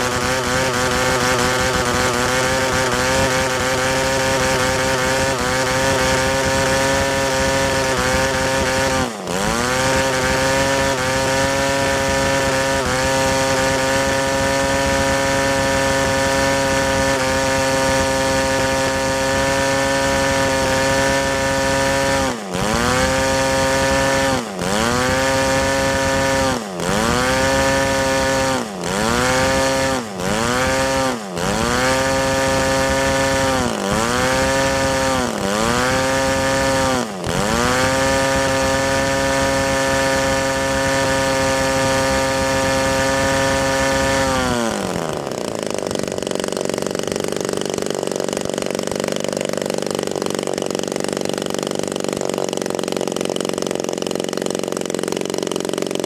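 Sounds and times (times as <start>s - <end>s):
model airplane engine running: 0.0s - 56.0s.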